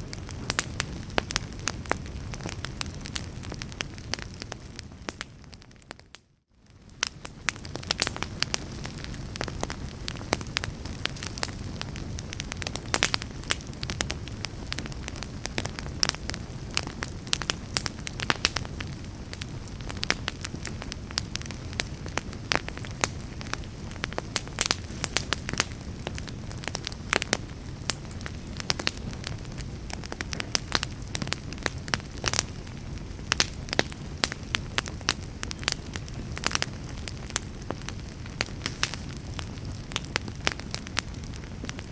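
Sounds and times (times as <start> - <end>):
low rush of flame: 0.0 - 5.9, 6.6 - 41.9
wood crackling and popping: 0.0 - 41.9.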